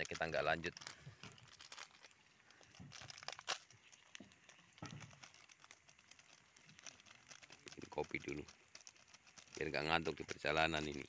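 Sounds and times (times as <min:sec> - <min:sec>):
packets torn open by hand: 0:00.0 - 0:11.0
plastic packets crinkling: 0:00.0 - 0:11.0.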